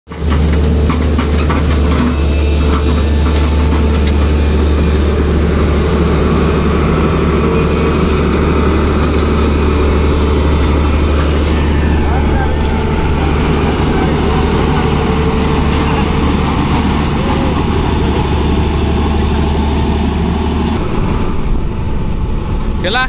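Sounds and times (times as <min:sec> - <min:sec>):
excavator diesel engine running: 0:00.1 - 0:23.0.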